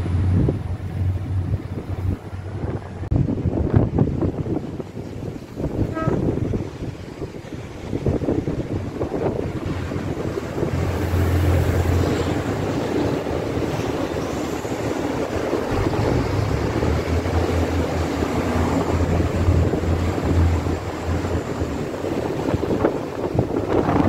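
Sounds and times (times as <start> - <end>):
diesel train engine hum: 0.0 - 24.0
wind buffeting microphone: 0.0 - 24.0.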